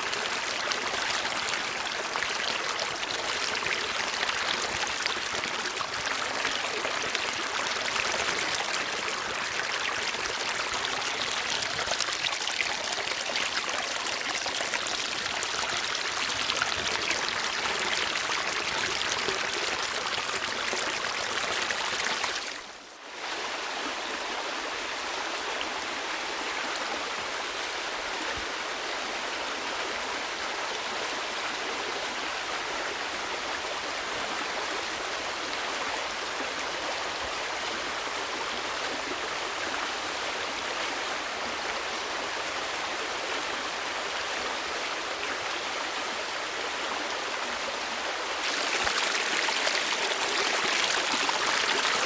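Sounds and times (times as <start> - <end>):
flowing water rushing: 0.0 - 52.0.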